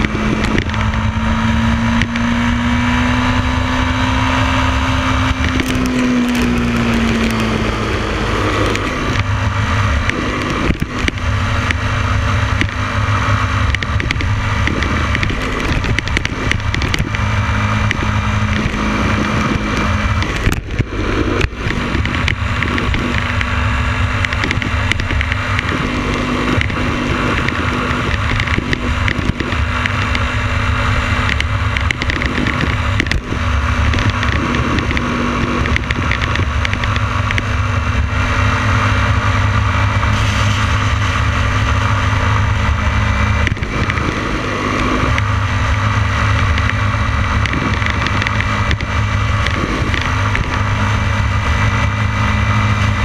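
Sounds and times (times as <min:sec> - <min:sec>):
motorcycle engine: 0:00.0 - 0:53.0
wind buffeting microphone: 0:00.0 - 0:53.0.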